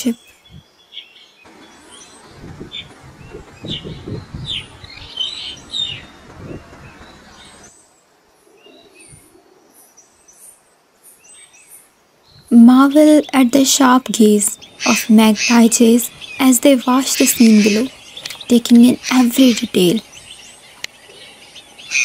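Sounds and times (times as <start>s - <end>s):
small songbirds chirping: 0.0s - 22.0s.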